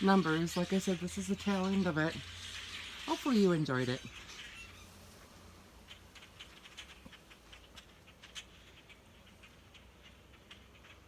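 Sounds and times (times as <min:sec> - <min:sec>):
flock of birds chattering: 0:00.0 - 0:11.0.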